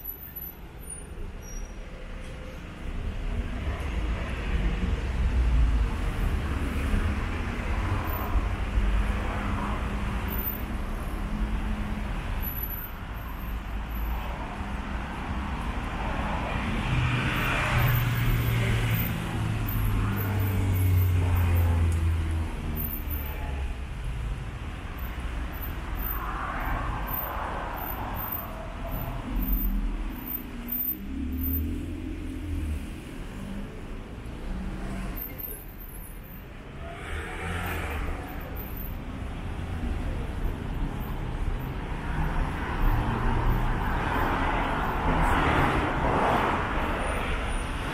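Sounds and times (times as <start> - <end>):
cars passing: 0.0 - 47.9.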